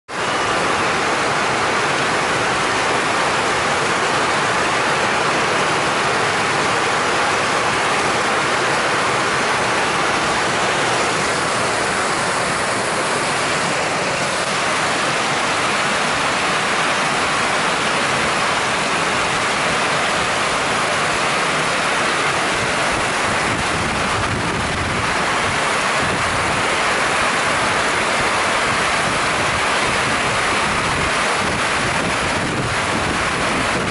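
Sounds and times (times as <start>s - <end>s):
heavy rain pouring on ground: 0.1s - 33.9s.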